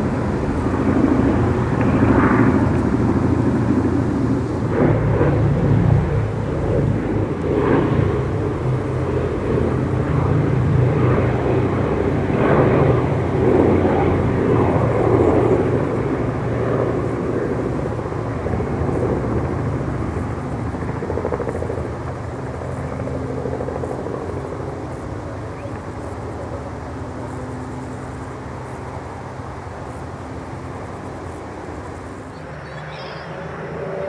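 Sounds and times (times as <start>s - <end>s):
propeller plane engines droning: 0.0s - 34.0s.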